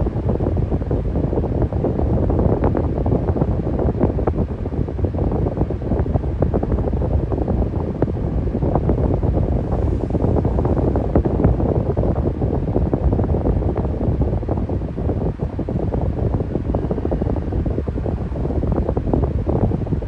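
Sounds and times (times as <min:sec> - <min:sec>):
electric fan running: 0:00.0 - 0:20.0
wind buffeting microphone: 0:00.0 - 0:20.0.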